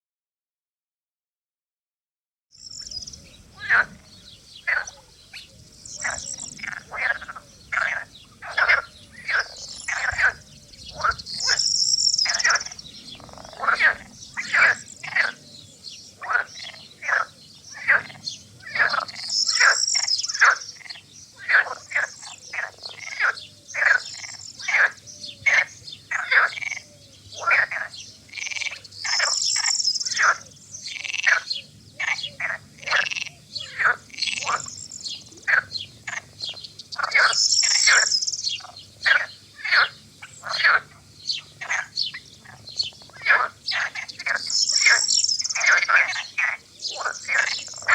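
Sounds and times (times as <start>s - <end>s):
high chirping call: 2.6s - 21.0s, 22.0s - 47.9s
frogs croaking in chorus: 2.6s - 47.9s.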